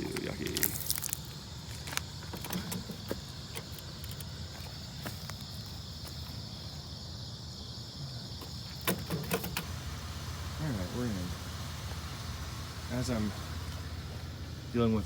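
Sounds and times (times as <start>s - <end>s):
crickets chirring: 0.0s - 15.0s
engine rumble: 0.0s - 15.0s.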